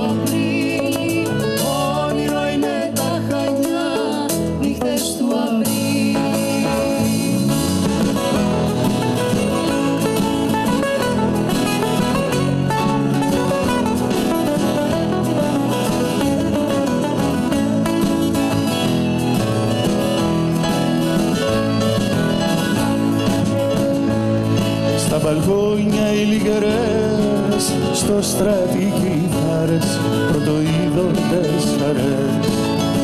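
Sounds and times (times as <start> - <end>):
live band playing instrumental: 0.0 - 33.0.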